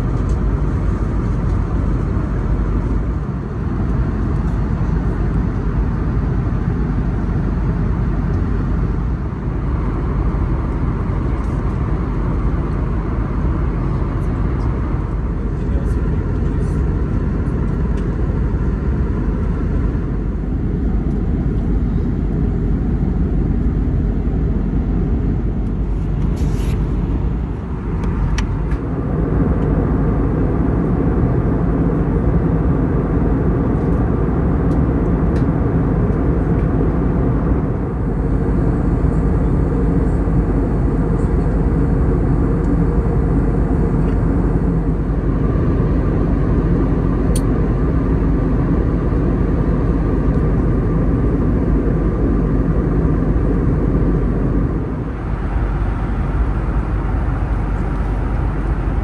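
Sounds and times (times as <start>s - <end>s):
aircraft cabin airflow and engines: 0.0s - 59.0s
faint steady hum: 0.0s - 59.0s.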